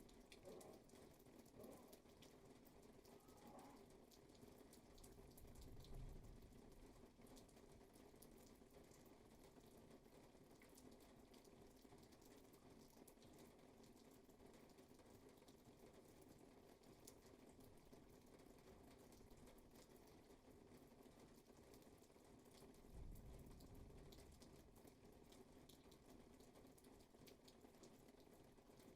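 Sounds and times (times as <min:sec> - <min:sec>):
faint rain: 0:00.0 - 0:28.9.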